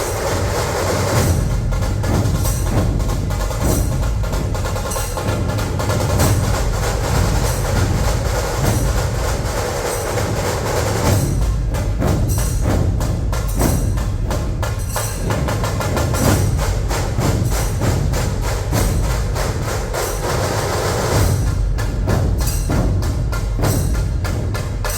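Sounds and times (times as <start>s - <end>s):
cracking drum strokes: 0.0s - 24.9s
deep barrel drums pounding: 0.0s - 24.9s
drum ensemble playing loudly: 0.0s - 24.9s.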